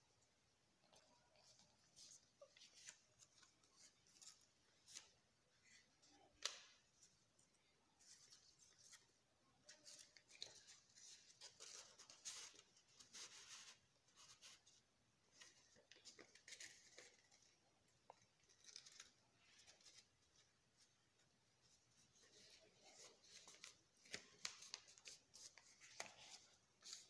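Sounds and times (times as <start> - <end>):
paper rustling and crinkling: 0.9 - 7.4, 8.0 - 27.0.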